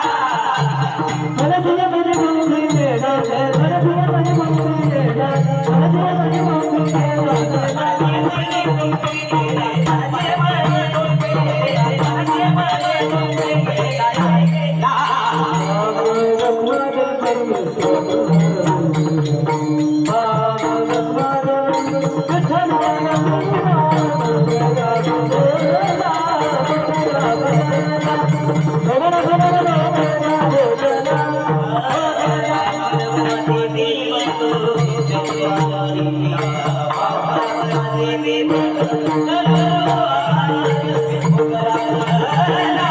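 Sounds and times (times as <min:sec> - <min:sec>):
jingling rhythm percussion: 0:00.0 - 0:42.9
man singing devotional song: 0:00.0 - 0:42.9.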